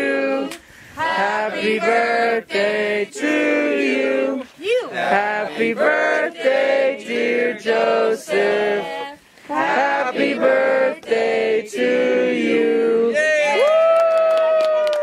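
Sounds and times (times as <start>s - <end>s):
group of people singing: 0.0s - 13.2s.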